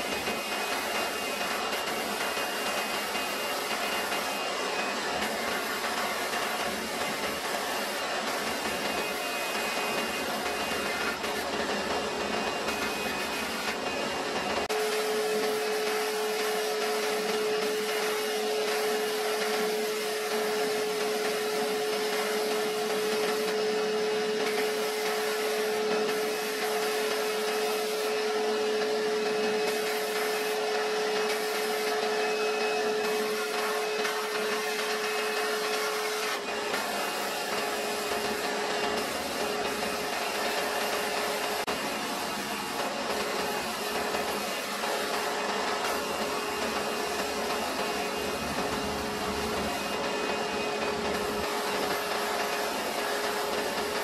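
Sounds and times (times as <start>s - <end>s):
sandblasting gun hissing: 0.0s - 54.0s.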